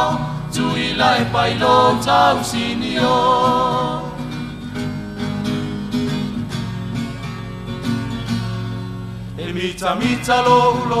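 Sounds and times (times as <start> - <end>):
acoustic guitars strumming: 0.0 - 11.0.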